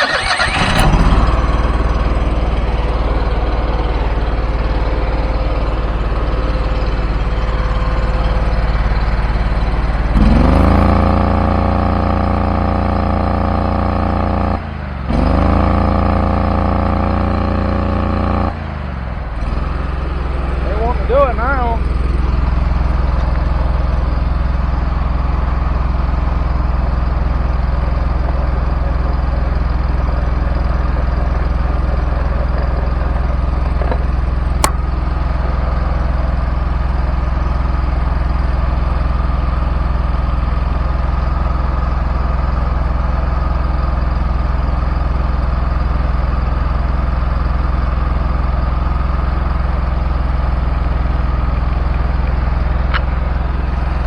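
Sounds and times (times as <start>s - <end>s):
mower engine running: 0.0s - 54.0s.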